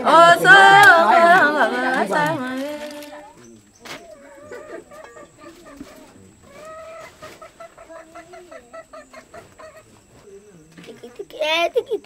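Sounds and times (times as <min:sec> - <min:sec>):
chickens clucking: 0:00.0 - 0:11.2.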